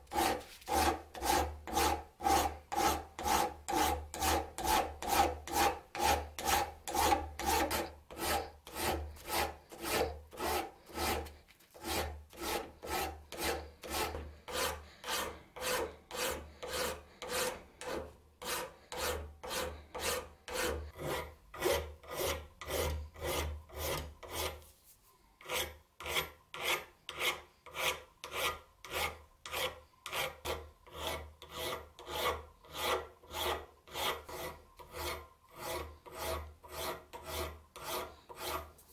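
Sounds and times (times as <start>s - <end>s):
file rasping on steel: 0.0s - 24.6s, 25.4s - 38.8s.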